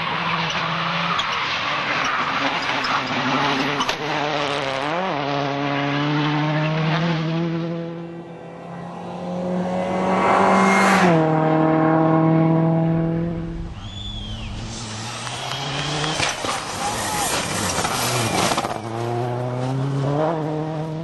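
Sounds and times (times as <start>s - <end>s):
rally car engine passing: 0.0s - 21.0s.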